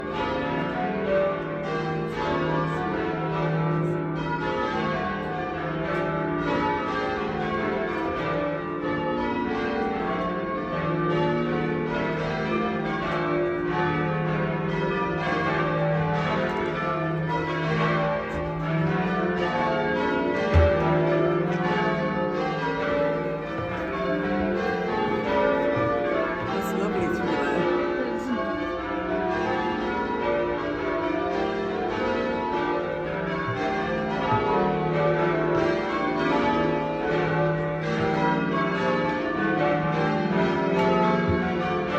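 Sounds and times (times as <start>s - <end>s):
church bells change ringing: 0.0s - 41.9s.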